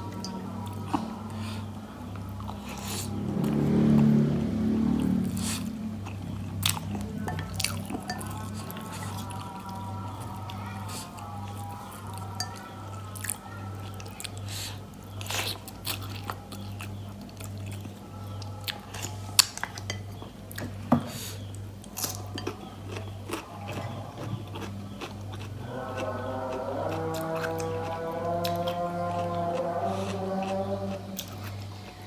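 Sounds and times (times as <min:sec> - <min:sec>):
person chewing food: 0:00.0 - 0:04.0, 0:04.8 - 0:32.0
quiet music with pulsing bass: 0:00.0 - 0:32.0.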